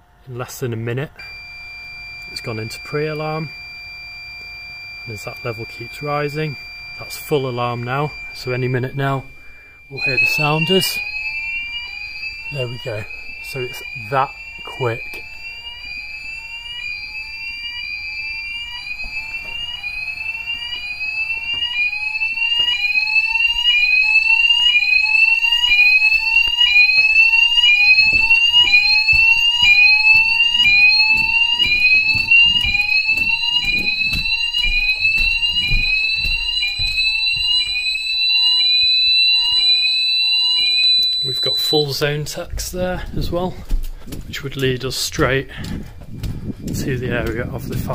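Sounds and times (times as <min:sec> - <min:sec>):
fire alarm whooping: 0:00.0 - 0:47.9
steady high alarm tone: 0:00.0 - 0:47.9.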